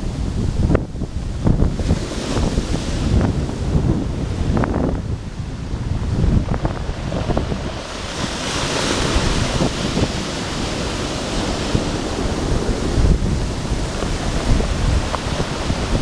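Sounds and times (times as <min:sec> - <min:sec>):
sea waves breaking on shore: 0:00.0 - 0:16.0
wind buffeting microphone: 0:00.0 - 0:16.0.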